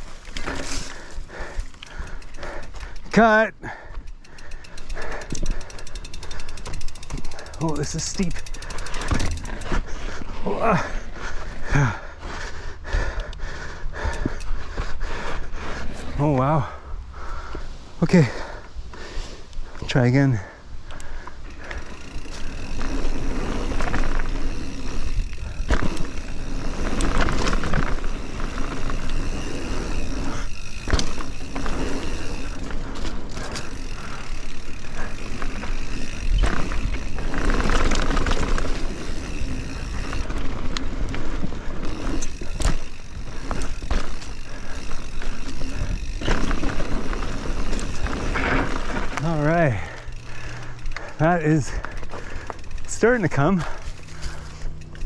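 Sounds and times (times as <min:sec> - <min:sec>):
bike rattling over bumps: 0:00.0 - 0:17.7, 0:20.0 - 0:55.0
tyres on loose dirt: 0:00.0 - 0:55.0.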